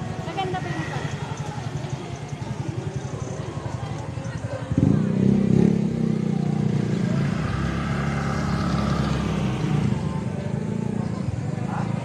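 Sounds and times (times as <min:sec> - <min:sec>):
motor scooter passing by: 0:00.0 - 0:12.0.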